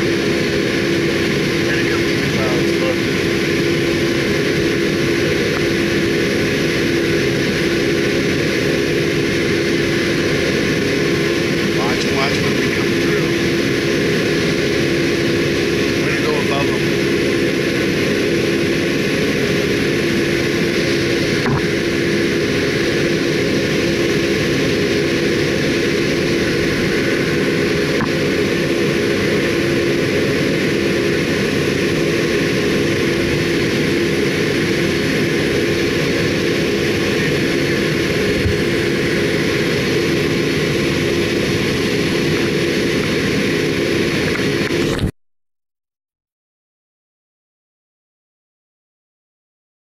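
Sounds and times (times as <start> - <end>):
jet engine cabin noise: 0.0 - 45.1
steady droning tone: 0.0 - 45.1.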